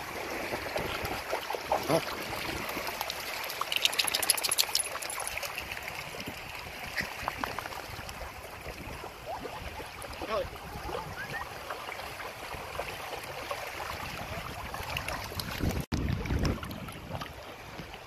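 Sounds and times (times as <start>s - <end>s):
small waves lapping: 0.0s - 18.0s
water splashing: 0.0s - 18.0s.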